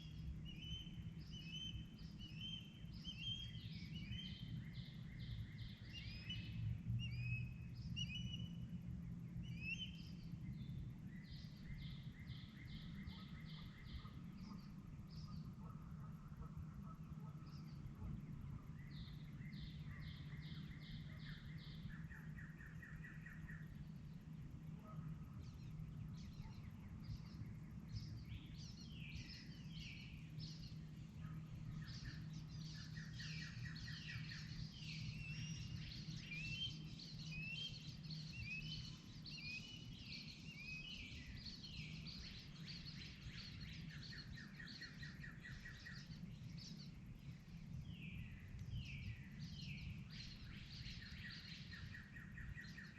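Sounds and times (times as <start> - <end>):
low steady hum: 0.0 - 52.9
songbirds singing: 0.0 - 52.9.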